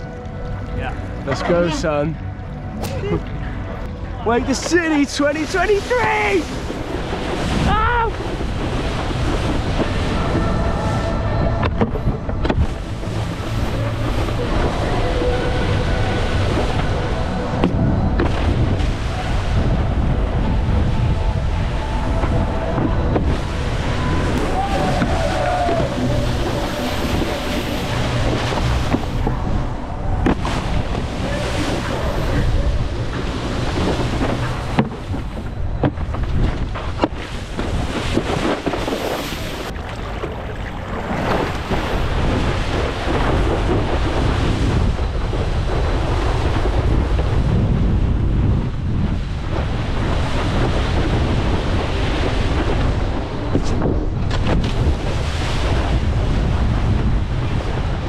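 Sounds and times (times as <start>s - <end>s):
board cutting across water: 0.0s - 58.0s
wind buffeting microphone: 0.0s - 58.0s.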